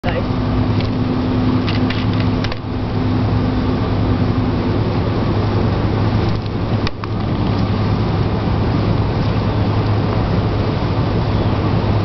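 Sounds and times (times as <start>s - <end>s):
constant hum: 0.0s - 12.0s
low outdoor rumble: 0.0s - 12.0s.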